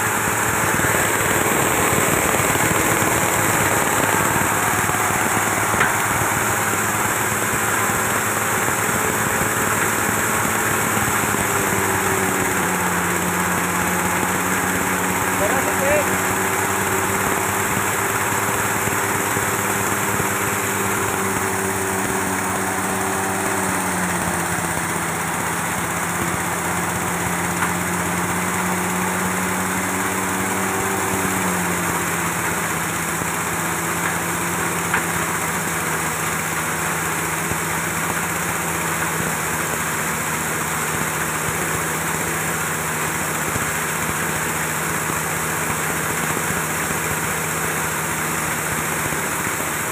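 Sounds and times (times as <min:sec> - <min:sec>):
grinding rotor rushing: 0:00.0 - 0:49.9
small engine running: 0:00.0 - 0:49.9.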